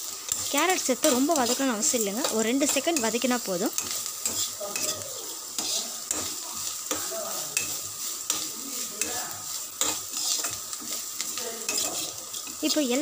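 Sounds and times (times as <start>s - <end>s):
spatula stirring and scraping: 0.0s - 13.0s
vegetables sizzling in oil: 0.0s - 13.0s.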